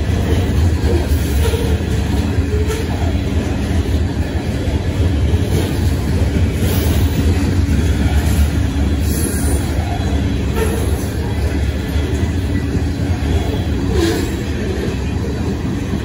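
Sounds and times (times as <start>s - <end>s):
train cars rumbling past: 0.0s - 16.0s.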